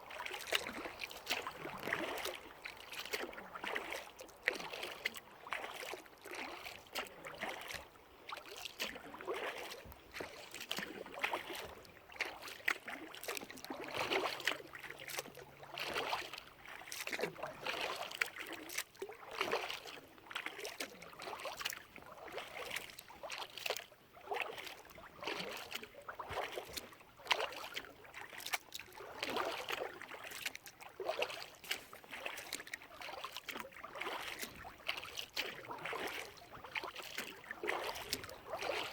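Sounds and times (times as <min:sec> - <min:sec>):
paddle splashing in water: 0:00.0 - 0:38.9
water drips: 0:00.1 - 0:23.8, 0:24.5 - 0:38.9.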